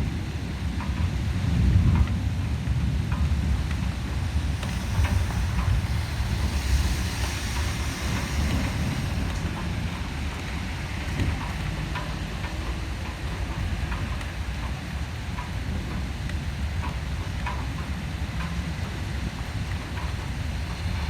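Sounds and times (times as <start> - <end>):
wind buffeting microphone: 0.0 - 21.0
rain hissing: 2.5 - 21.0.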